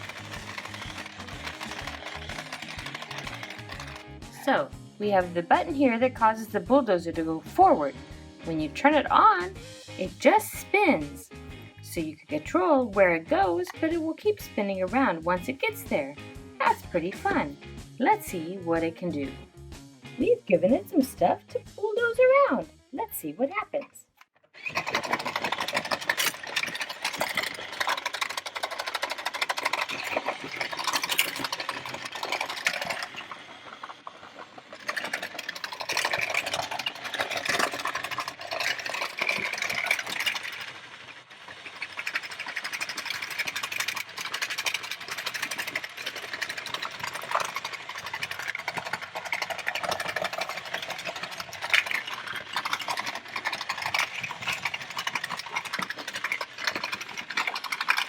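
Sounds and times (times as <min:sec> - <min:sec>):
toy clicking and clattering: 0:00.0 - 0:07.8, 0:08.5 - 0:19.5, 0:23.2 - 0:58.0
toy motor and gears whirring: 0:00.0 - 0:07.8, 0:08.5 - 0:19.5, 0:20.2 - 0:58.0.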